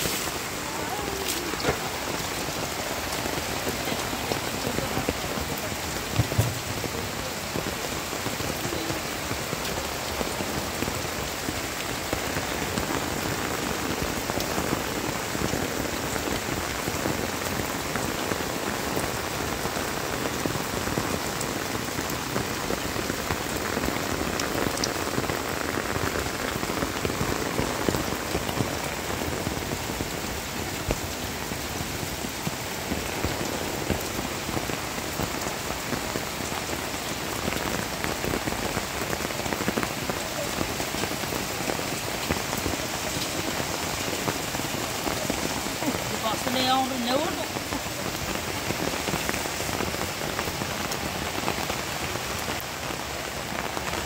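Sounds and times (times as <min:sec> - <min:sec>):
heavy rain on plastic sheet: 0:00.0 - 0:54.0.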